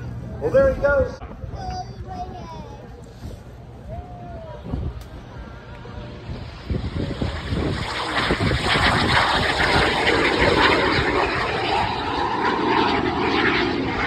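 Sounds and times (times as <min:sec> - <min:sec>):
airplane flying low pass: 0:02.2 - 0:14.0.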